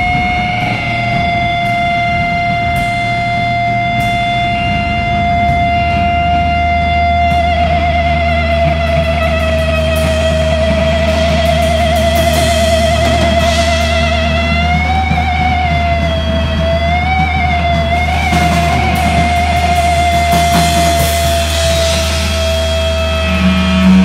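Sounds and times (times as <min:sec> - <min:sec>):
electric guitar feedback: 0:00.0 - 0:24.0
low bass drone: 0:00.0 - 0:24.0.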